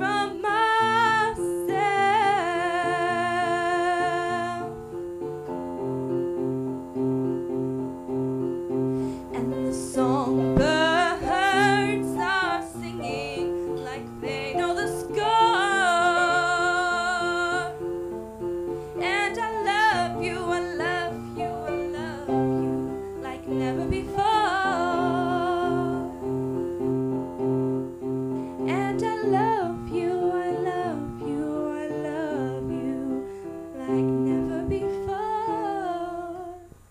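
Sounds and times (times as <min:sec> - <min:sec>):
woman singing: 0:00.0 - 0:05.0, 0:09.2 - 0:18.1, 0:18.8 - 0:26.5, 0:28.6 - 0:36.8.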